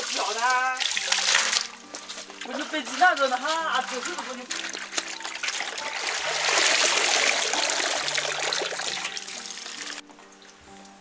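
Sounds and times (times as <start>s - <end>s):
water splashing in metal basin: 0.0s - 10.0s.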